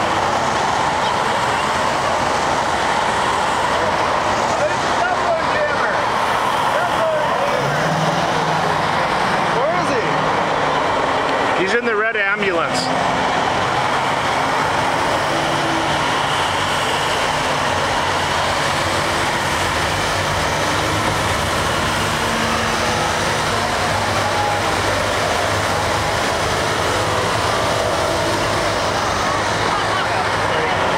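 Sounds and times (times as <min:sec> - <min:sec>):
street traffic: 0:00.0 - 0:30.9.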